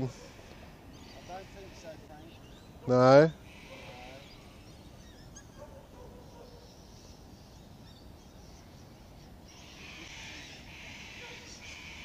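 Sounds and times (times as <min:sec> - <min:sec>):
faint short bird calls: 0:00.0 - 0:12.0
low steady background noise: 0:00.0 - 0:12.0.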